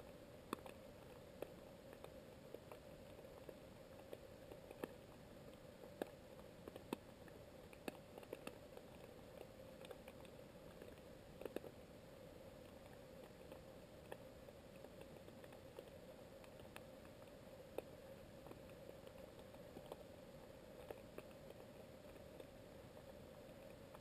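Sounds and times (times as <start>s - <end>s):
steady underwater hum: 0.0s - 24.0s
underwater clicks and crackles: 0.0s - 24.0s.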